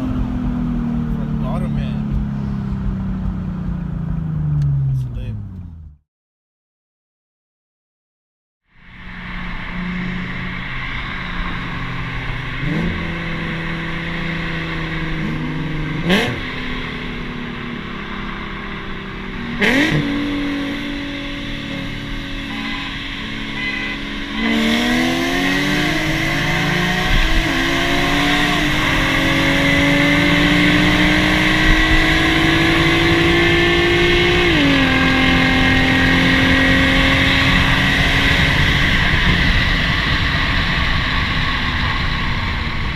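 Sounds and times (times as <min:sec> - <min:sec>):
car engine accelerating: 0:00.0 - 0:06.0, 0:08.8 - 0:42.9.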